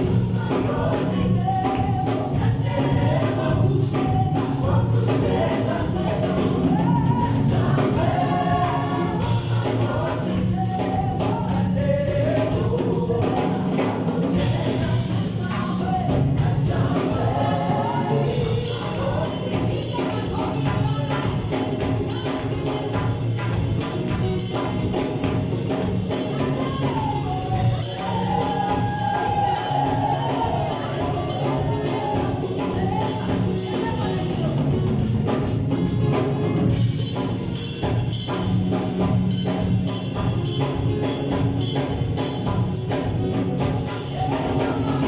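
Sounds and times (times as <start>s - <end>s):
band playing gospel music: 0.0s - 45.0s
tambourine: 0.0s - 45.0s
voices singing together: 0.0s - 45.0s.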